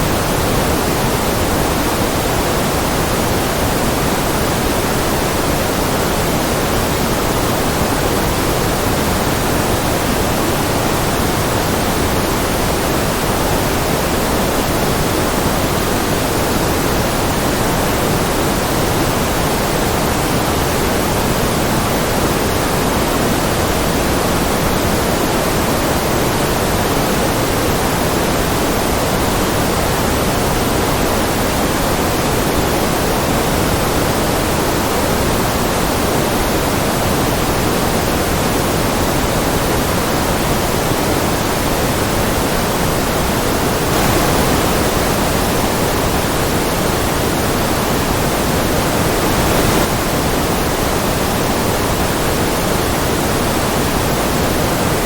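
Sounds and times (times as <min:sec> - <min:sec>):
steady synthetic noise: 0:00.0 - 0:55.0.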